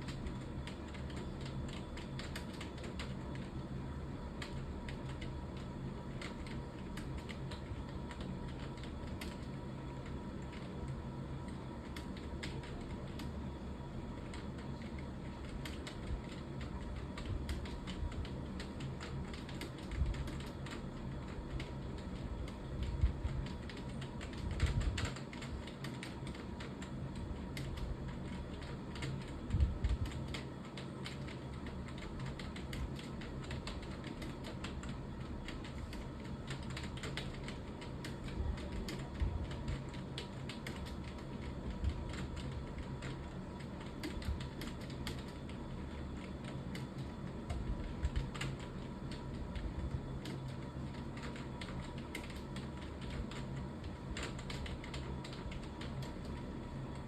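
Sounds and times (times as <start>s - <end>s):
typing on computer keyboard: 0.0s - 13.4s, 14.1s - 57.0s.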